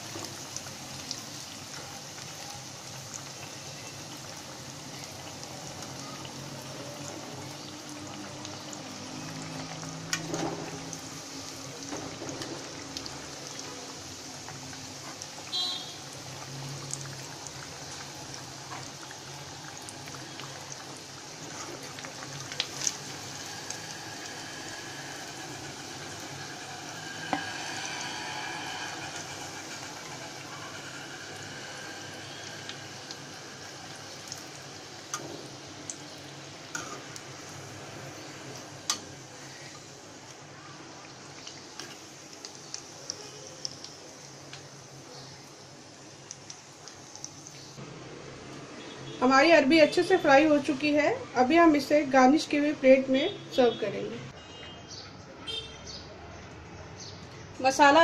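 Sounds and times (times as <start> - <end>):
hot oil sizzling and bubbling: 0.0 - 53.8, 56.5 - 58.0.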